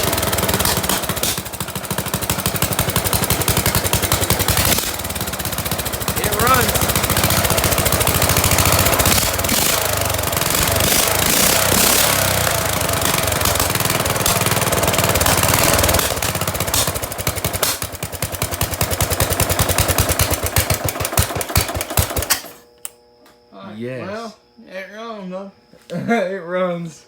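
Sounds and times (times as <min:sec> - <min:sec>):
small lawn mower engine running: 0:00.0 - 0:22.7.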